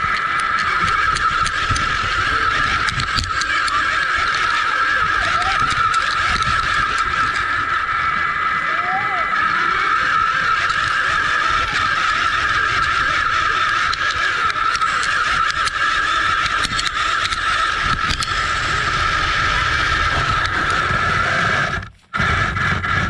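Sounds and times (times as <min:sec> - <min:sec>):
rc car motor whining: 0:00.0 - 0:23.0
tyres rumbling over rough ground: 0:00.0 - 0:23.0.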